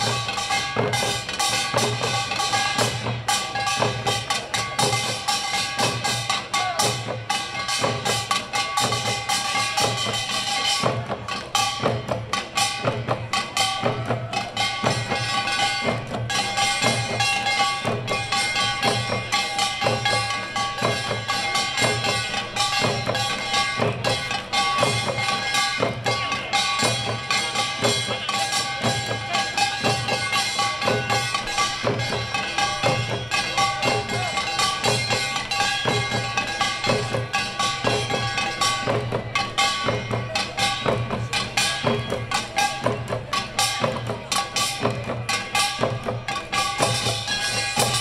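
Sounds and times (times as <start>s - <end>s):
hand drums beating fast: 0.0s - 48.0s
steady ringing tones: 0.0s - 48.0s.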